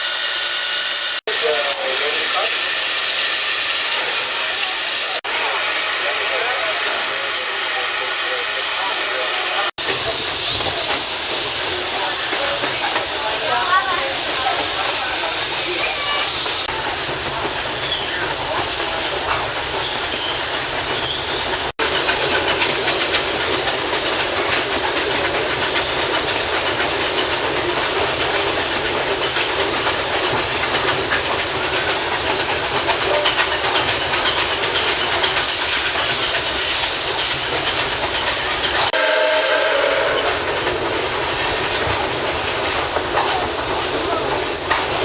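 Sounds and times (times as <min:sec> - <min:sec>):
train wheels on rails: 0:00.0 - 0:45.0.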